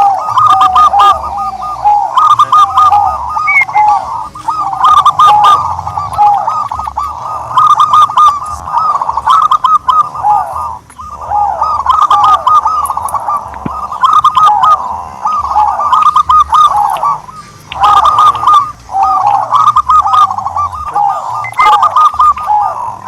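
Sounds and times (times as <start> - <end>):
turtledoves cooing: 0.0 - 23.0.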